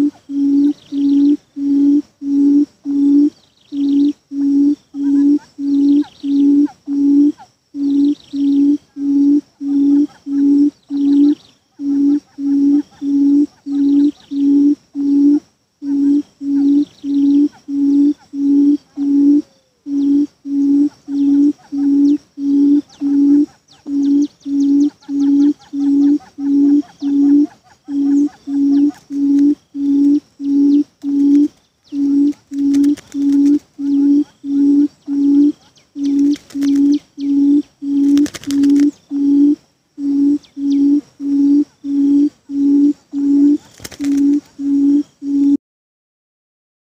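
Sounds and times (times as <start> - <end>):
buttonquail low hooting: 0.0 - 45.6.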